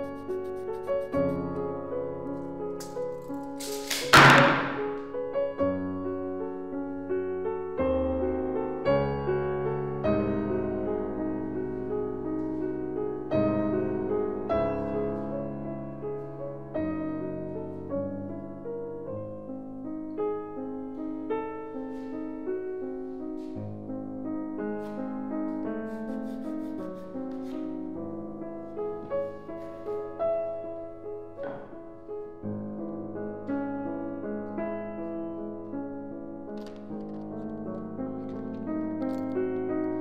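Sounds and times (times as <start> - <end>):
slow piano music: 0.0 - 40.0.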